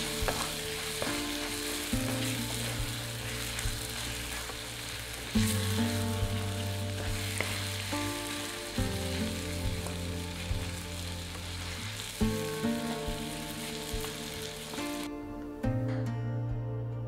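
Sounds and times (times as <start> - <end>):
food sizzling in oil: 0.0 - 15.1
soft background music: 0.0 - 17.0.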